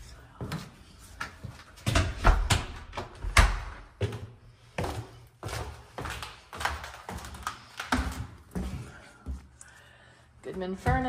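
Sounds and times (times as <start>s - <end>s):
footsteps down stairs: 0.0s - 11.0s.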